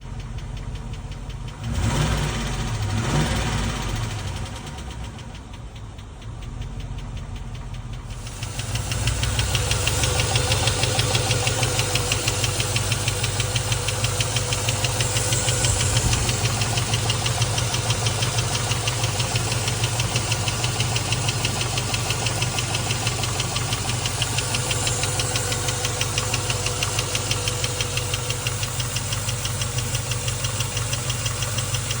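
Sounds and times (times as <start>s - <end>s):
engine running: 0.0s - 32.0s
fast regular engine ticking: 0.0s - 32.0s.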